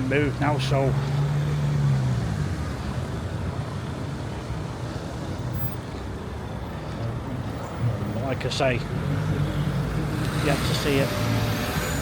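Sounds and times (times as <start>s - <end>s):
road noise rumble: 0.0s - 12.0s
vehicle engine hum: 0.0s - 12.0s.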